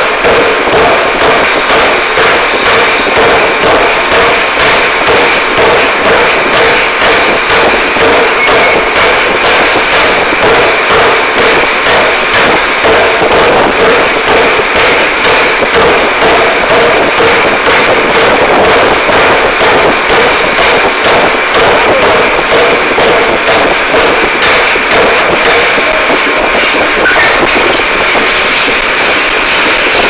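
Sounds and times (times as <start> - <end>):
air forging hammer pounding: 0.0 - 30.0.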